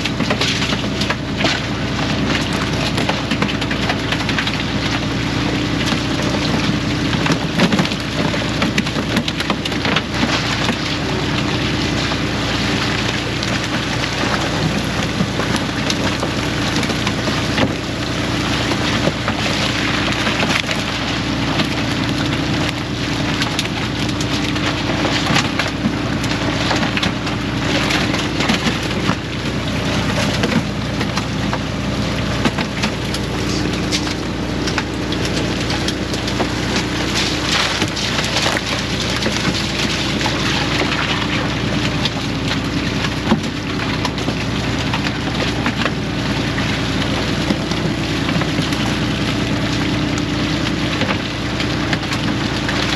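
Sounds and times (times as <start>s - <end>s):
boat engine running: 0.0s - 52.9s
water splashing: 0.0s - 52.9s.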